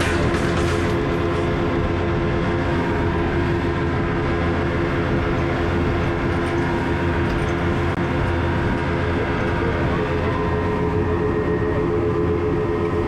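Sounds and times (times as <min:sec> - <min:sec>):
boat engine droning: 0:00.0 - 0:13.0
wind: 0:00.0 - 0:13.0.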